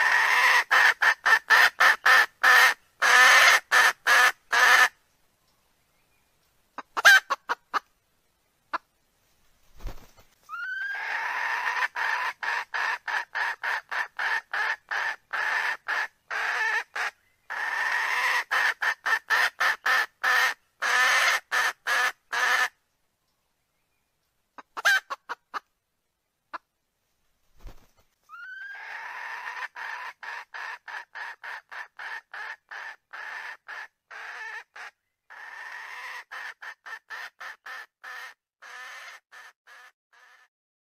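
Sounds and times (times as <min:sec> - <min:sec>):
chicken clucking calls: 0:00.0 - 0:05.0, 0:06.7 - 0:07.9, 0:09.8 - 0:22.8, 0:24.6 - 0:25.7, 0:27.6 - 0:40.4.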